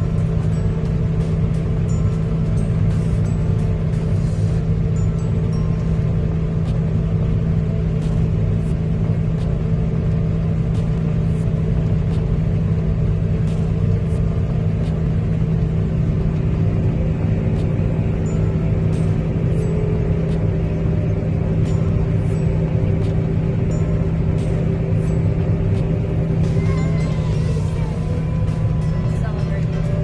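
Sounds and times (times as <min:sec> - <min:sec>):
heavy engine running: 0:00.0 - 0:30.0.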